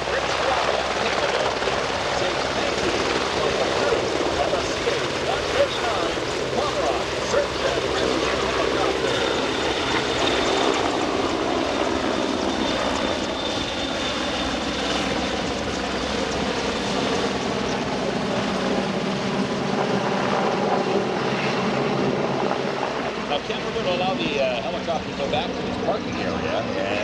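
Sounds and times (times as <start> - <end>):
helicopter rotors and engines: 0.0 - 27.0
high turbine whine: 0.0 - 27.0.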